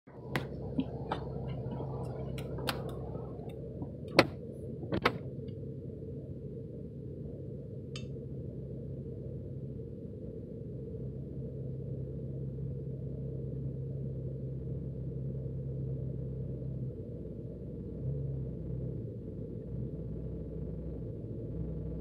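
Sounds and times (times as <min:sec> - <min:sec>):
muffled engine rumble: 0:00.0 - 0:22.0.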